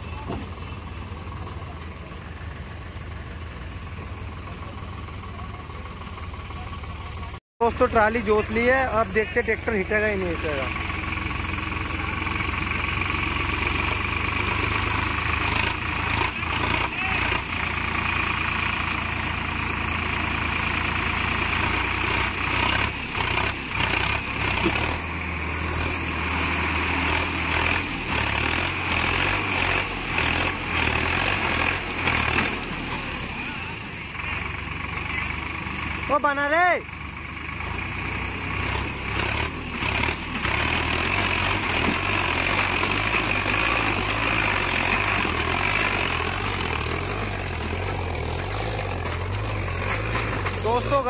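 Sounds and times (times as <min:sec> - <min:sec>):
tractor engine straining: 0:00.0 - 0:51.0.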